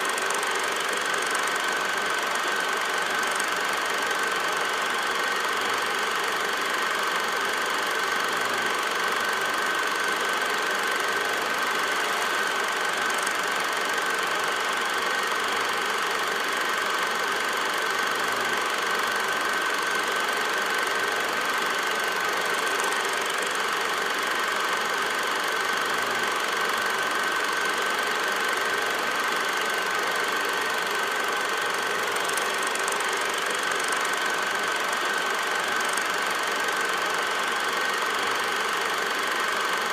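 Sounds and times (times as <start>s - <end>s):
machine running with high whine: 0.0s - 39.9s.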